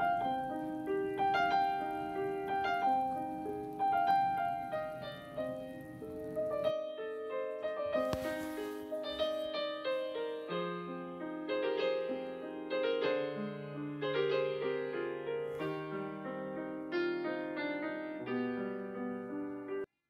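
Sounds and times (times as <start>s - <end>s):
piano music: 0.0s - 19.9s.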